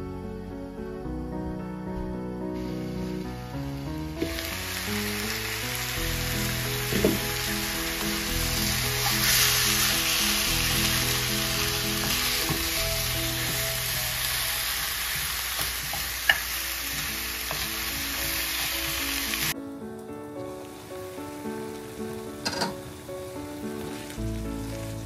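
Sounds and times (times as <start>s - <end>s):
background music: 0.0s - 25.0s
chicken sizzling in hot oil: 2.6s - 19.6s, 20.5s - 25.0s.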